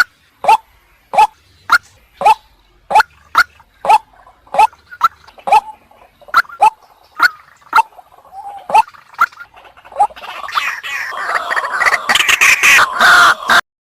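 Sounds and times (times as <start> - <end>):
waterhen calling: 0.0 - 13.6.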